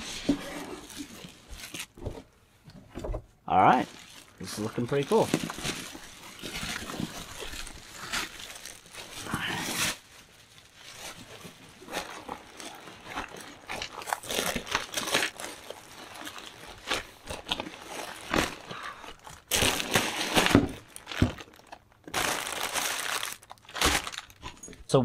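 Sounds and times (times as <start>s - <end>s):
plastic wrapping crinkling: 0.0s - 2.4s, 3.6s - 25.0s
nylon bag rustling: 3.6s - 24.7s.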